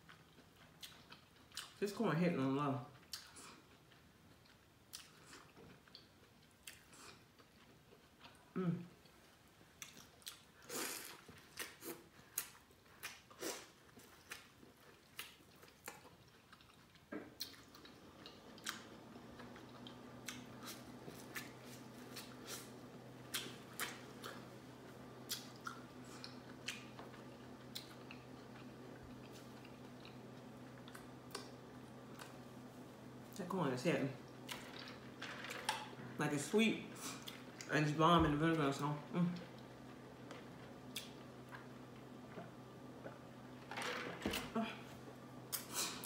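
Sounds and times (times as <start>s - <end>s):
person chewing corn: 0.0s - 1.8s, 2.8s - 33.4s, 34.2s - 36.0s, 36.9s - 37.7s, 39.0s - 43.6s, 44.7s - 46.0s
low steady hum: 0.0s - 46.0s.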